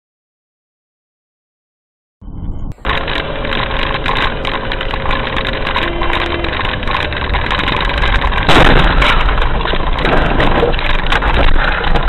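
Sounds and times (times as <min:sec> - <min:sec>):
car engine: 0:02.2 - 0:12.0
road noise: 0:02.2 - 0:12.0.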